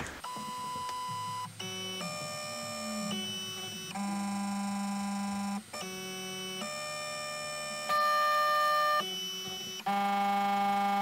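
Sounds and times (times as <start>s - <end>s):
stepper motors whining: 0.2s - 11.0s.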